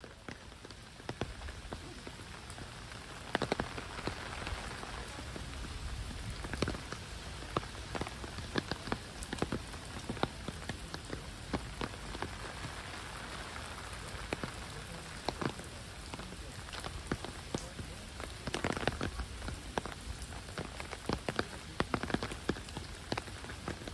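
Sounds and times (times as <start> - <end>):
heavy rain: 0.0 - 23.9
raindrop impacts close by: 0.0 - 23.9.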